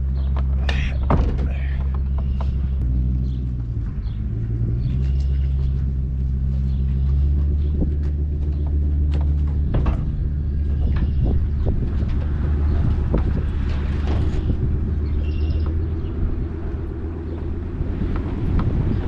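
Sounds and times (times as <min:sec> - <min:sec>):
wagon knocks and rattles: 0:00.0 - 0:03.8, 0:04.9 - 0:19.0
truck engine and rolling rumble: 0:00.0 - 0:19.0.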